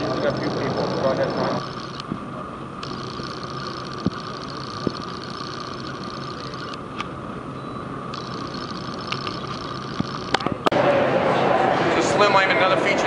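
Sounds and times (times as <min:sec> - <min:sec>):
mechanical hum and hiss: 0:00.0 - 0:13.0.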